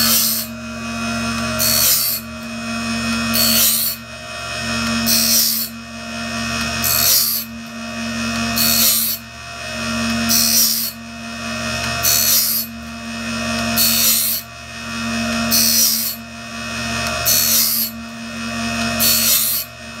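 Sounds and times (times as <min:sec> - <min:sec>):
grinding wheel hissing on blade: 0:00.0 - 0:20.0
motor humming: 0:00.0 - 0:20.0.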